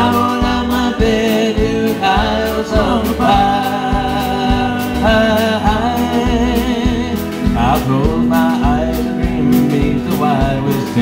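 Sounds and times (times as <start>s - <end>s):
guitar: 0.0s - 11.0s
man singing: 0.0s - 11.0s
steady beat: 0.0s - 11.0s.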